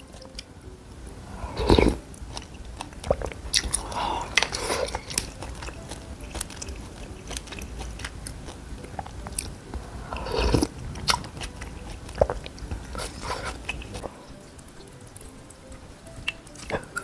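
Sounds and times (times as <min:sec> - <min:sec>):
biting and chewing noodles: 0:01.3 - 0:17.0.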